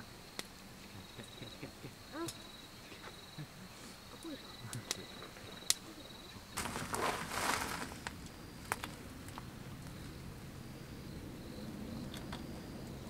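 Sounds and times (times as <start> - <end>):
crickets trilling: 0.0 - 13.0
rustle: 0.0 - 13.0.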